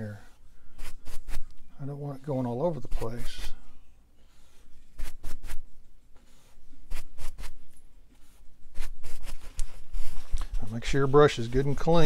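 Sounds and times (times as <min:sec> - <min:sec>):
brush scratching on canvas: 0:00.0 - 0:03.6, 0:04.9 - 0:05.6, 0:06.2 - 0:12.0.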